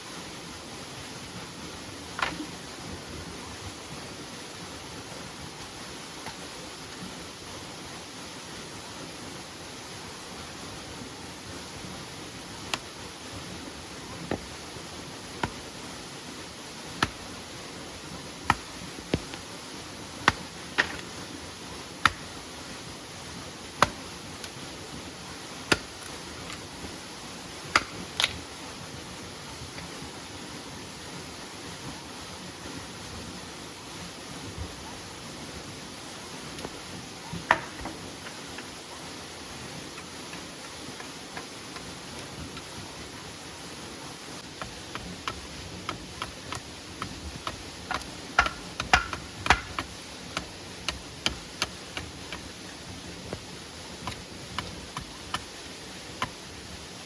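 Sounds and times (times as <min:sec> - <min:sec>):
rain: 0:00.0 - 0:57.0.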